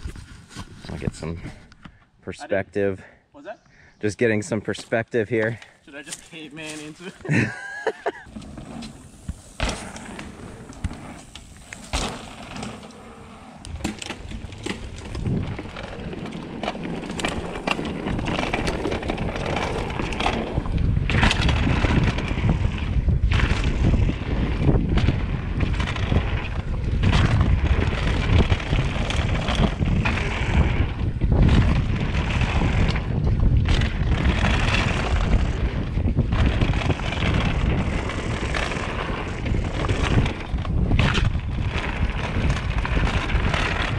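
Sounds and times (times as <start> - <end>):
bike tyre rumble and rattling: 0.0 - 2.1, 4.4 - 43.9
wind buffeting microphone: 7.2 - 43.9.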